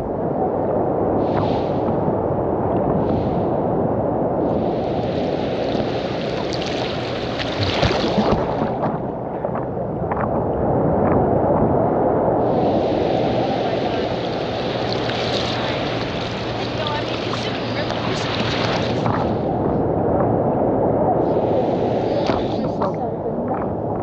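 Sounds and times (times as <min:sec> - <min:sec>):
breaking waves rushing: 0:00.0 - 0:23.9
ocean surf washing in: 0:00.0 - 0:24.0
wind buffeting the microphone: 0:00.0 - 0:24.0.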